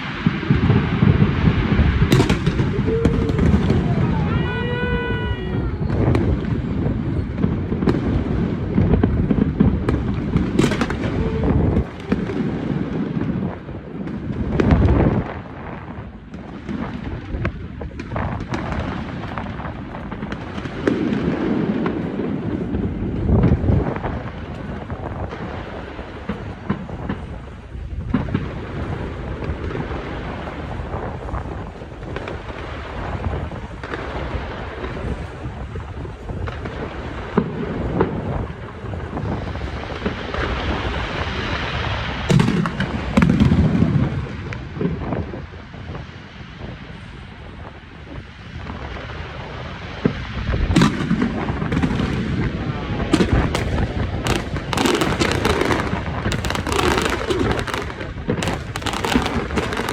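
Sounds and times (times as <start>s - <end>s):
fireworks booms: 0.0s - 59.9s
fireworks cracks and crackle: 0.0s - 59.9s.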